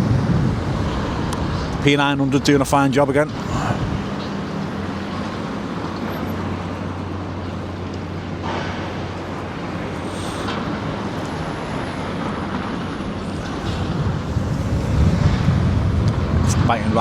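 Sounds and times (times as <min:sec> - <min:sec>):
diesel engines droning: 0:00.0 - 0:17.0
road traffic noise: 0:00.0 - 0:17.0.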